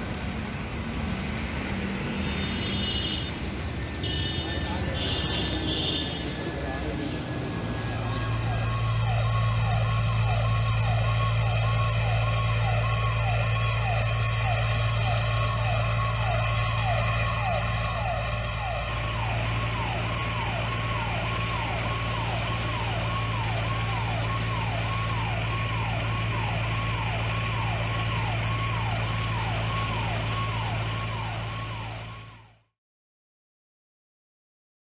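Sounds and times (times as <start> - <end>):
fire engine siren wailing: 4.0 - 32.7.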